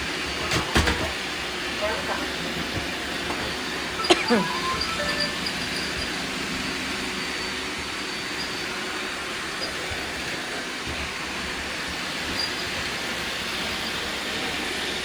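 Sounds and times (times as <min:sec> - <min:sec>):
robot vacuum cleaners whirring: 0:00.0 - 0:15.0.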